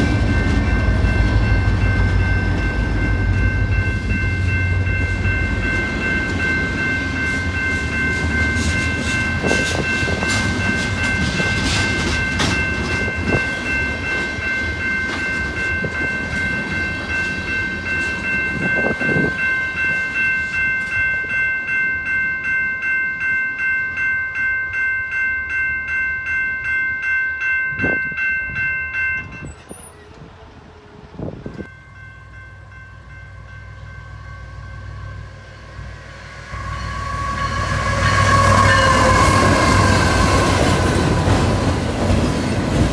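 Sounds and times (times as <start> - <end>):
level-crossing warning bell ringing: 0.0 - 30.3, 31.5 - 42.9
sharp clanks of railcars: 0.0 - 35.1, 35.8 - 42.9
railcars rolling: 0.0 - 42.9.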